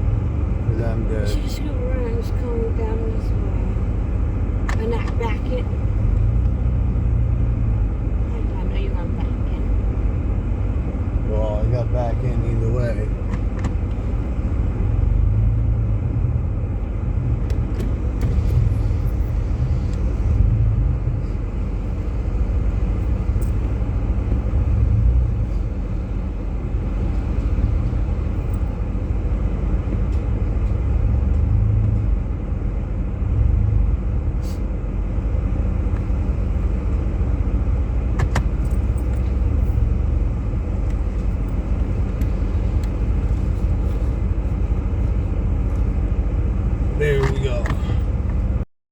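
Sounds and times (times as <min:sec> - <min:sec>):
car engine and tyres rumbling: 0:00.0 - 0:48.7.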